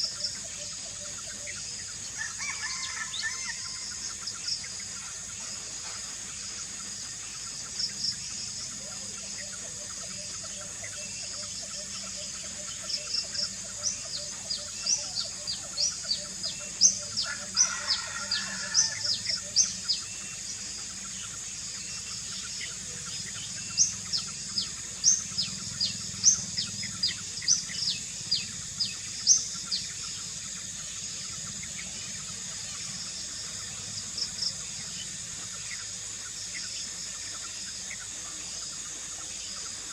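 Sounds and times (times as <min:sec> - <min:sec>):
birds chirping: 0:00.0 - 0:39.9
steady high hiss: 0:00.0 - 0:39.9.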